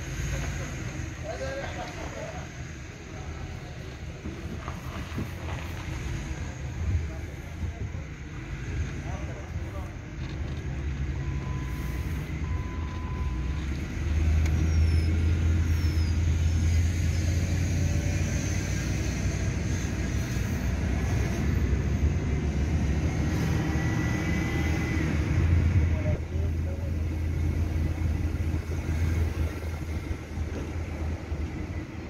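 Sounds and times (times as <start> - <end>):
car engine rumble: 0.0 - 32.0
road noise: 0.0 - 32.0.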